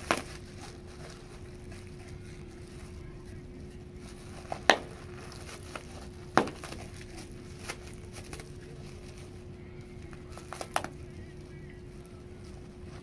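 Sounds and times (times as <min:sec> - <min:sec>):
bubble wrap popping: 0:00.0 - 0:13.0
steady low hum: 0:00.0 - 0:13.0.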